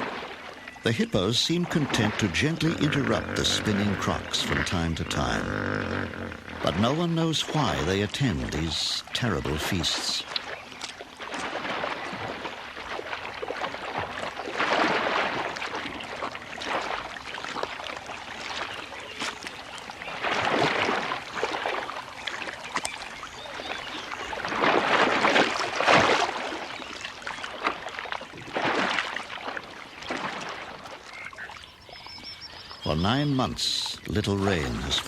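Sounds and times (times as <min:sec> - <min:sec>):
water splashing and sloshing: 0:00.0 - 0:35.0.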